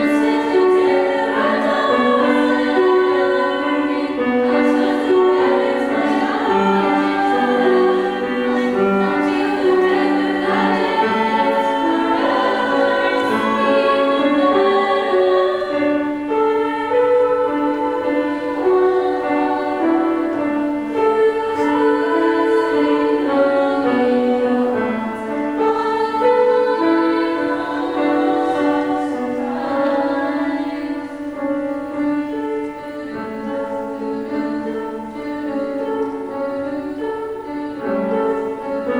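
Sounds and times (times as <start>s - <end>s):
vocal group singing in harmony: 0.0s - 38.9s.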